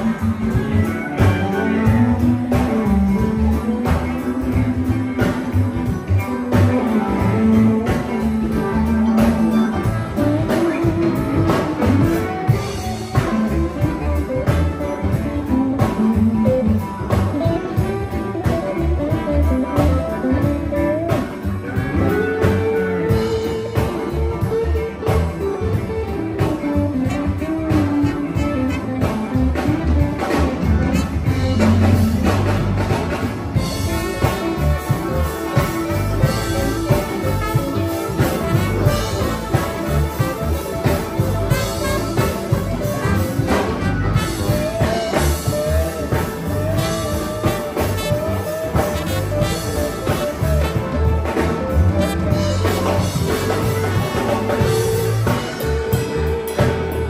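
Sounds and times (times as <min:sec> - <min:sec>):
drum kit steady beat: 0:00.0 - 0:57.0
electric guitars playing blues: 0:00.0 - 0:57.0.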